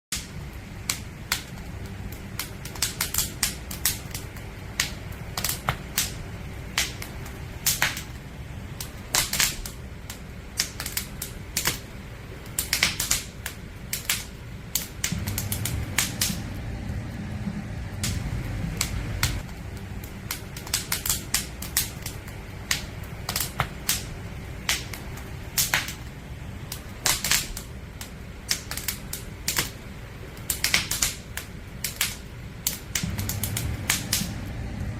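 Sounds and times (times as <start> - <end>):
campfire crackling and popping: 0.1 - 34.9
low rumble of flames: 0.1 - 34.9.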